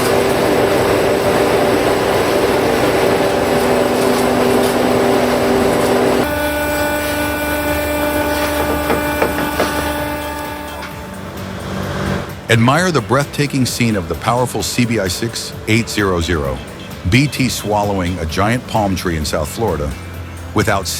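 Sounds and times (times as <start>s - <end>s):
grinding: 0.0s - 20.9s
low machine drone: 0.0s - 20.9s
machinery whine: 0.0s - 20.9s.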